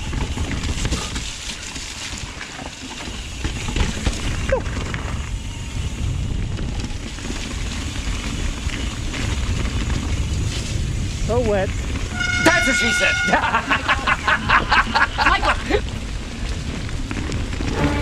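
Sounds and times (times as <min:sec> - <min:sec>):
bike rattling: 0:00.0 - 0:18.0
wind rumble on microphone: 0:00.0 - 0:18.0.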